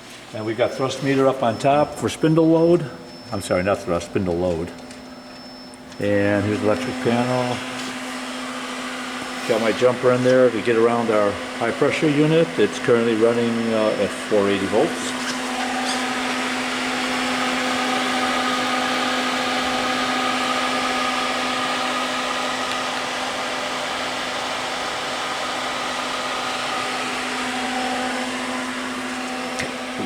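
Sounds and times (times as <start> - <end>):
drilling machine electric hum: 0.0 - 30.0.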